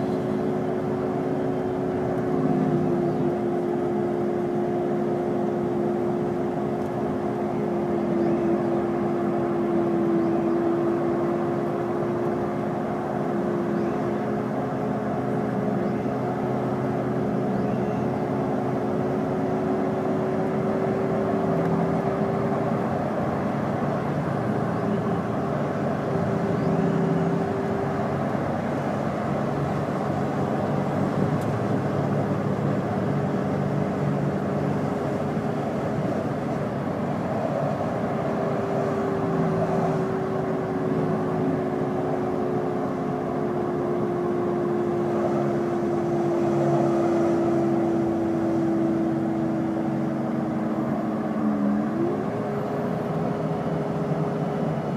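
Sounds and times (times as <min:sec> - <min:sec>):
bus engine and driveline noise: 0:00.0 - 0:54.9.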